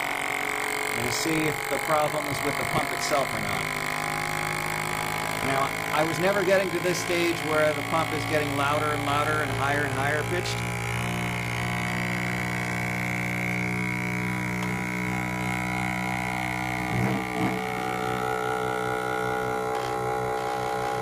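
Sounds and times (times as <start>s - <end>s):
vacuum pump running: 0.0s - 21.0s.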